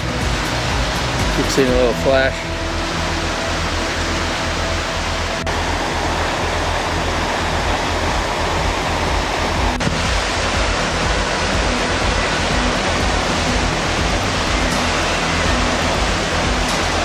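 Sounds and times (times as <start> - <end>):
creek rushing over rocks: 0.0 - 17.0.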